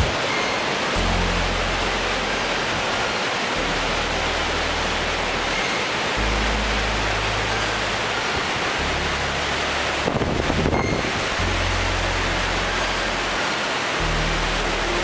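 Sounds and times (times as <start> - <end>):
low bass background music: 0.0 - 15.0
river rushing over boulders: 0.0 - 15.0.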